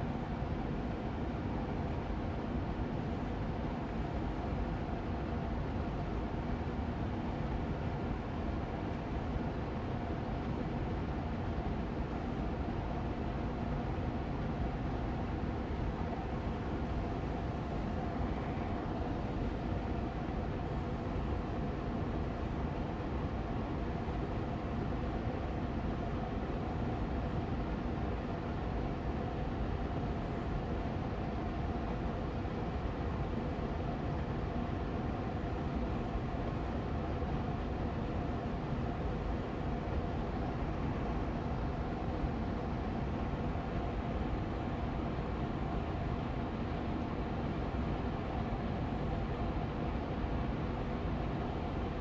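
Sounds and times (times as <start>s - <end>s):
air purifier fan running: 0.0s - 52.0s.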